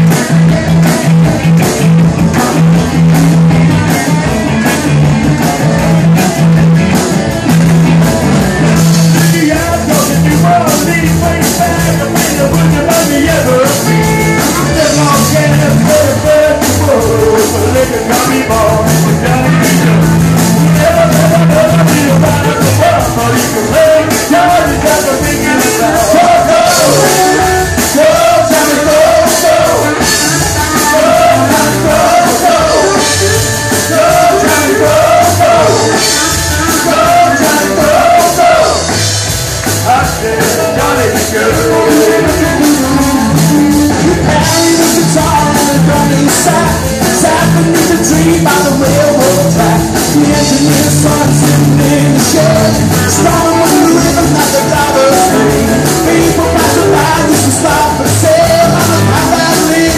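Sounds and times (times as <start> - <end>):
live blues band playing: 0.0 - 59.9
man singing: 0.0 - 59.9.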